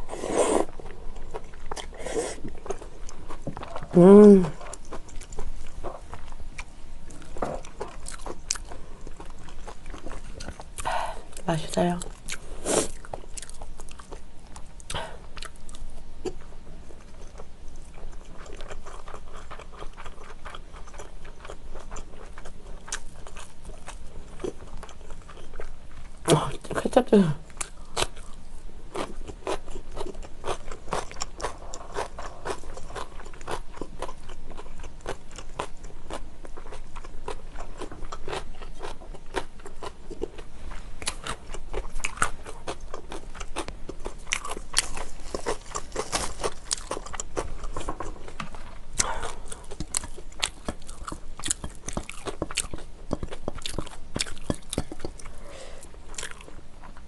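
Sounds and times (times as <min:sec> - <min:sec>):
person chewing crunchy food: 0:00.0 - 0:26.3, 0:27.5 - 0:57.0.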